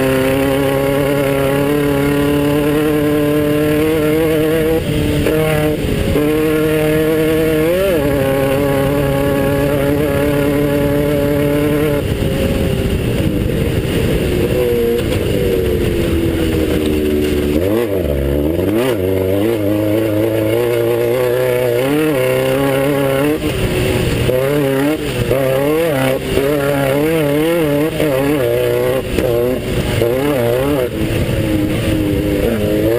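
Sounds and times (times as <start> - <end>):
car rattle and rushing noise: 0.0 - 32.9
race buggy engine revving: 0.0 - 32.9.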